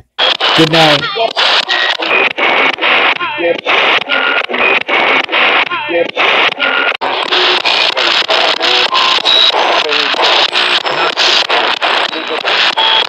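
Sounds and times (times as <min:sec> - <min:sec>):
chopped radio voices: 0:00.0 - 0:13.0
radio static: 0:00.0 - 0:13.0
radio sweeping across stations: 0:00.0 - 0:13.0.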